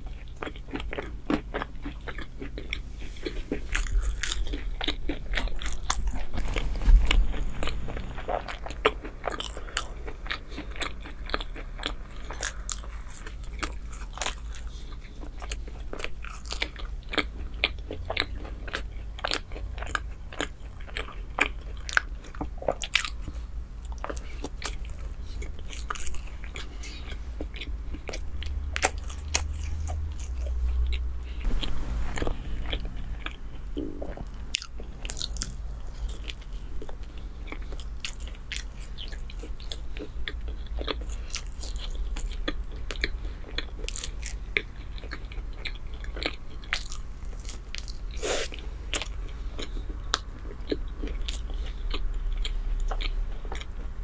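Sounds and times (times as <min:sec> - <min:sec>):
biting and chewing bread: 0:00.0 - 0:54.0.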